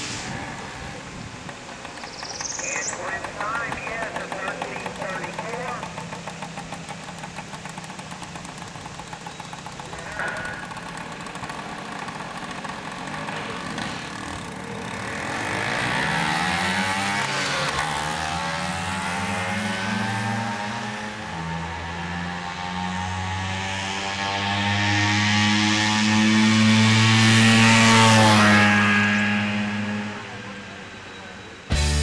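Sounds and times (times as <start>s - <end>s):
two-stroke scooter engine revving: 0.2s - 32.0s.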